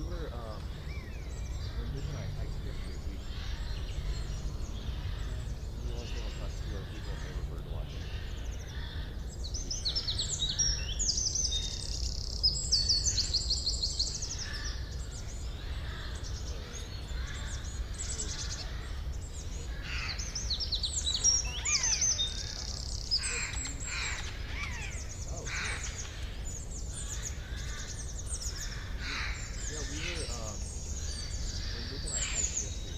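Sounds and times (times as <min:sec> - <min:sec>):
songbirds chirping and singing: 0:00.0 - 0:32.9.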